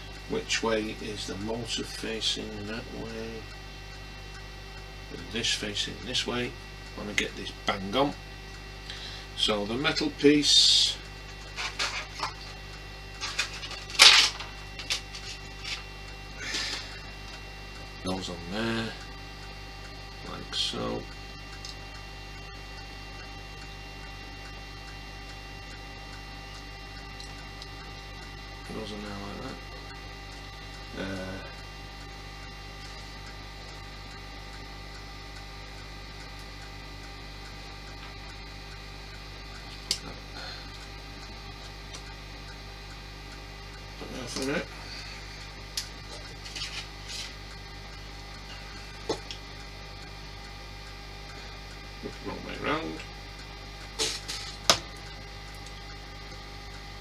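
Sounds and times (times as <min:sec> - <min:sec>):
steady electrical hum: 0:00.0 - 0:57.0.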